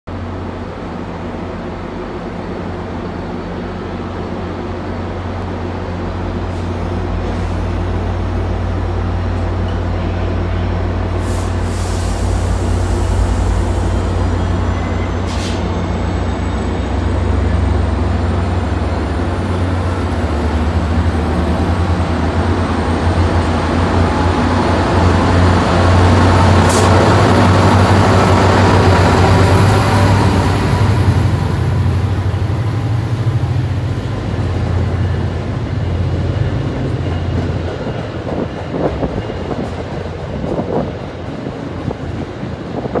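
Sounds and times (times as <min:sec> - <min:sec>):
train wheels rumbling on rails: 0:00.1 - 0:43.0.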